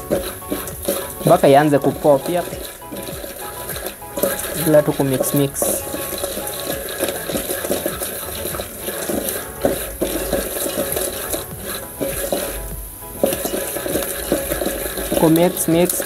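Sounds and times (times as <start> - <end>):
popcorn kernels rattling in pot: 0.0 - 16.0.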